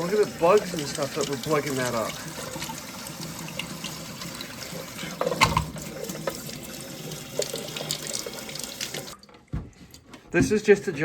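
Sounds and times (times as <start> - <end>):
tap water running and splashing: 0.0 - 11.0.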